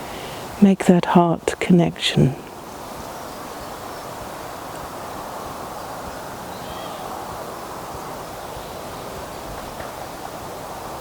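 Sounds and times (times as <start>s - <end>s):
wind through trees: 0.0s - 11.0s.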